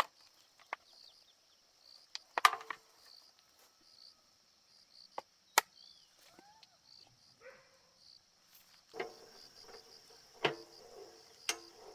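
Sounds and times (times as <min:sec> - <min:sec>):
insects chirping: 0:00.0 - 0:11.9.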